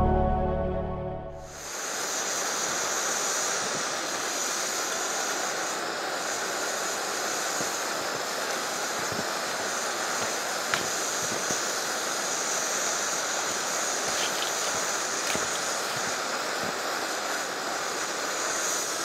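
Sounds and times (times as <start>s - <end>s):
stove burner hissing: 1.5s - 19.0s.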